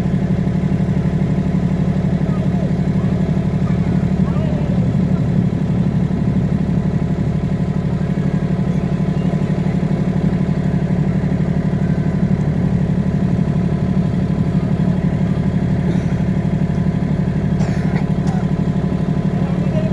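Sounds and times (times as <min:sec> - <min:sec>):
motorboat engine running: 0:00.0 - 0:19.9.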